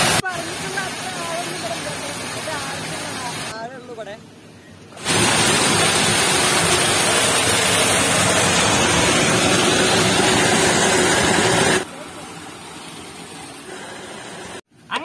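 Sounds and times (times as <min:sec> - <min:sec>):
water rushing through sluice: 0:00.0 - 0:03.6, 0:05.0 - 0:14.6.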